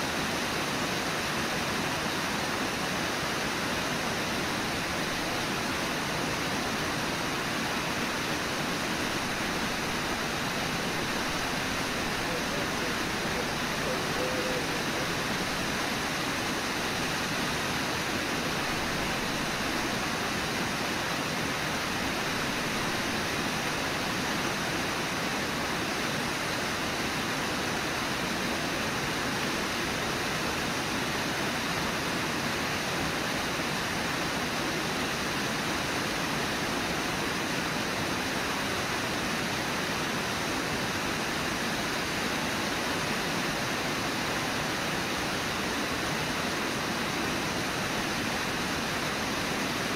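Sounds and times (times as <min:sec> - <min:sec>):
flowing river water: 0:00.0 - 0:49.9.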